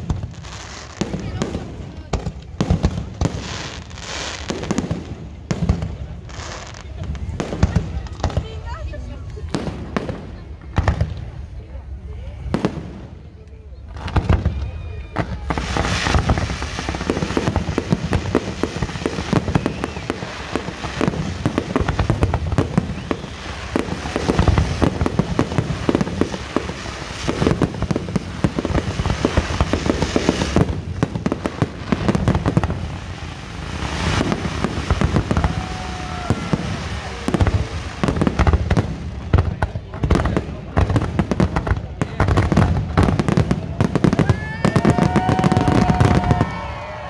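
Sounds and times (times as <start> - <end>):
fireworks booming: 0.0 - 47.0
fireworks crackling bangs: 0.0 - 47.0.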